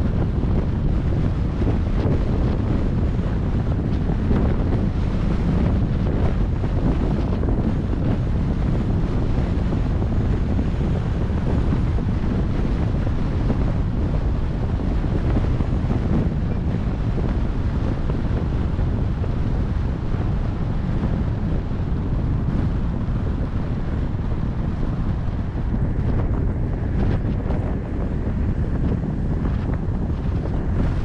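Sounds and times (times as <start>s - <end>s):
low car rumble: 0.0s - 31.0s
wind rushing over microphone: 0.0s - 31.0s.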